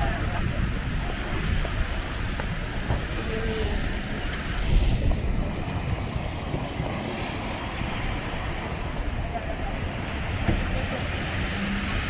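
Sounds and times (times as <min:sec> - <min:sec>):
city street traffic: 0:00.0 - 0:12.0
wind rumbling on microphone: 0:00.0 - 0:12.0.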